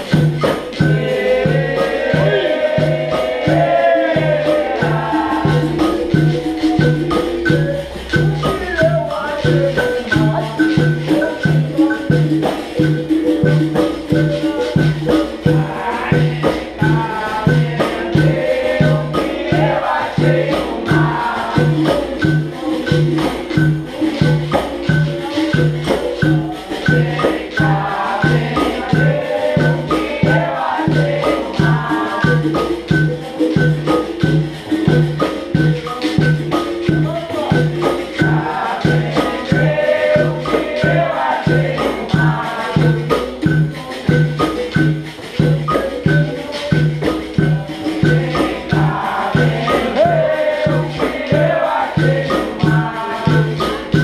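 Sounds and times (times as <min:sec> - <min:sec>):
berimbaus playing: 0:00.0 - 0:54.0
group of voices singing: 0:00.0 - 0:54.0
hand drum rhythm: 0:00.0 - 0:54.0
pandeiros jingling: 0:00.0 - 0:54.0.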